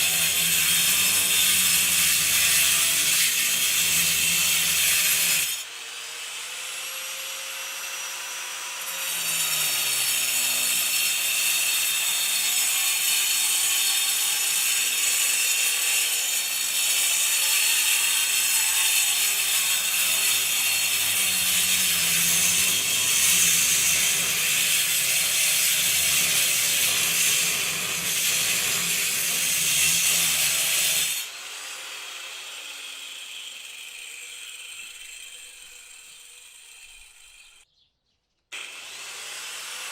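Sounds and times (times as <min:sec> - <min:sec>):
angle grinder cutting concrete: 0:00.0 - 0:37.7, 0:38.6 - 0:39.9.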